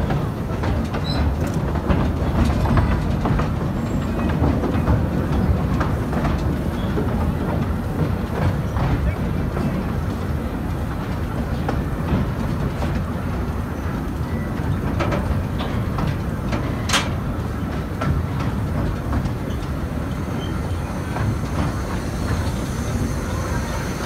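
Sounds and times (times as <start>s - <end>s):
train carriage rumbling: 0.0s - 24.0s
wheels clicking over rail joints: 0.0s - 24.0s.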